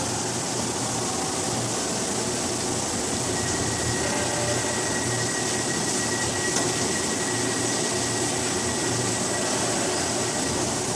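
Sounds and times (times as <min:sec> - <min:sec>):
machining center running: 0:00.7 - 0:10.9.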